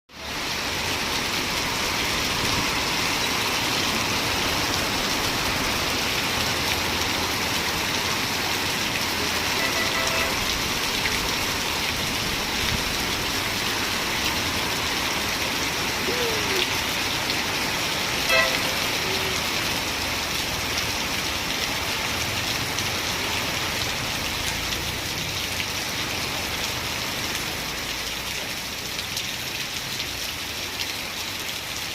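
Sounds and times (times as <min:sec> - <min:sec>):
steady rain falling: 0:00.1 - 0:31.9.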